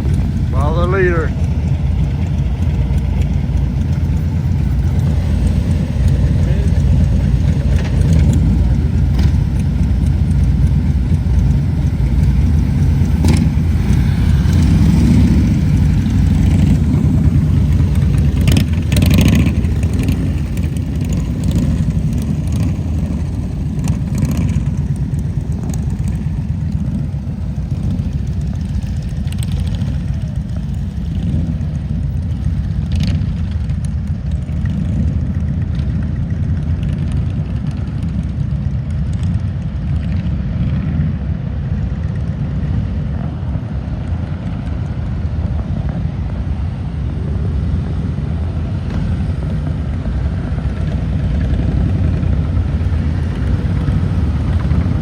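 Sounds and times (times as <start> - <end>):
motorcycle engines rumbling: 0.0 - 55.0.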